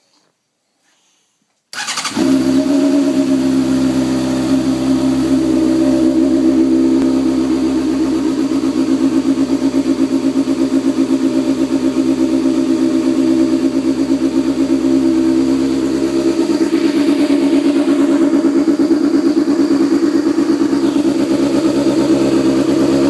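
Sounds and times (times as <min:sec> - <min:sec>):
motorcycle engine idling: 0:01.8 - 0:23.0.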